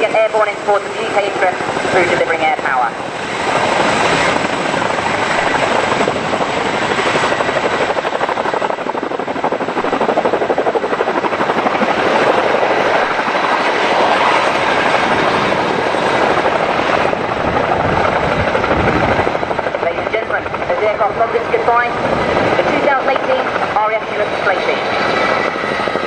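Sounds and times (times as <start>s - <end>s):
helicopter rotor chop: 0.0s - 26.0s
turbine engines: 0.0s - 26.0s.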